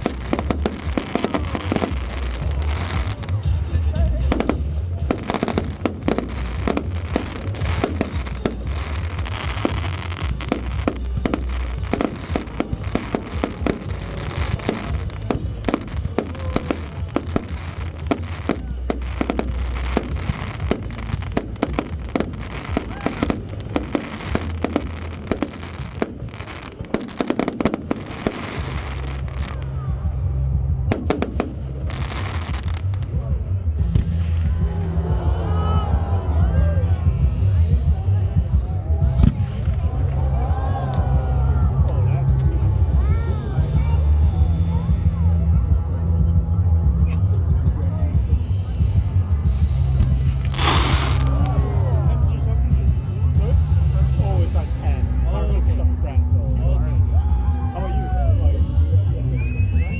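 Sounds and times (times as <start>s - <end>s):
fireworks bangs and crackles: 0.0s - 56.6s
music playing: 0.0s - 59.9s.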